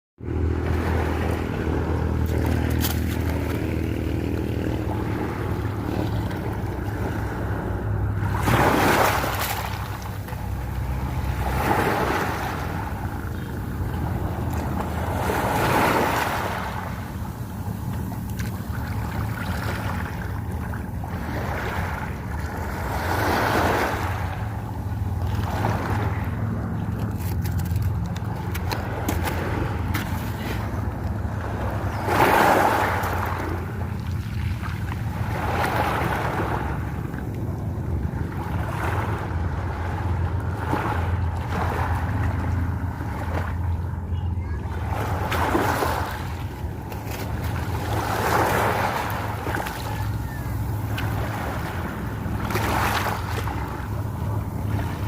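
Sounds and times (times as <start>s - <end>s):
steady low rumble: 0.2s - 32.2s, 32.8s - 55.0s
sea waves at the shore: 0.2s - 55.0s.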